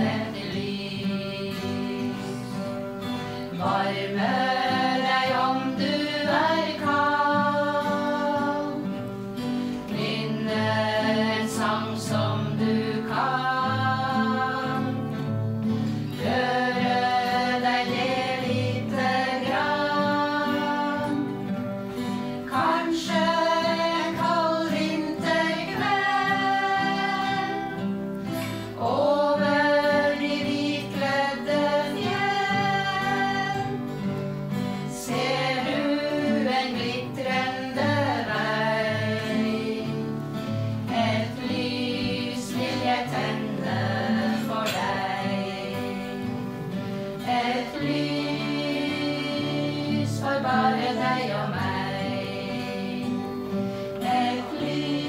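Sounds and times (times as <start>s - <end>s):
acoustic guitars: 0.0s - 55.0s
women singing together: 0.0s - 55.0s.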